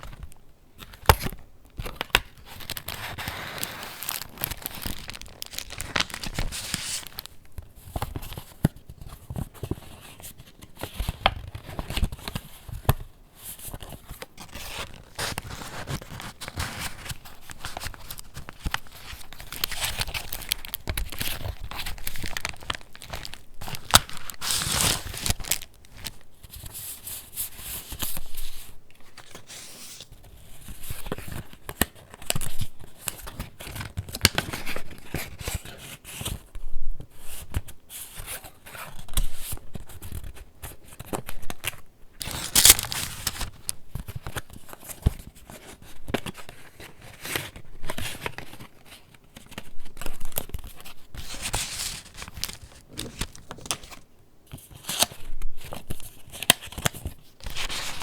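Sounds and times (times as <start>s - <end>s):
paper pages rustling: 1.8s - 13.0s, 13.6s - 36.4s, 38.2s - 54.0s, 54.6s - 58.0s.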